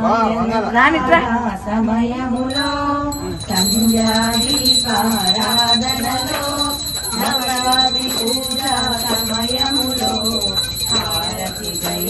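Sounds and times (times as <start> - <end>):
person singing a hymn: 0.0 - 12.0
bell ringing: 2.3 - 12.0.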